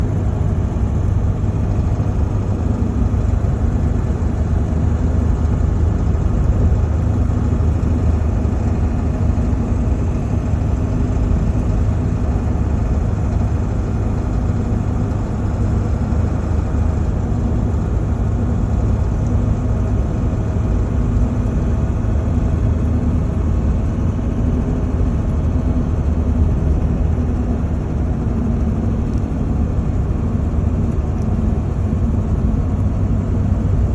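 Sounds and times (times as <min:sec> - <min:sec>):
engine and road rumble: 0:00.0 - 0:33.9.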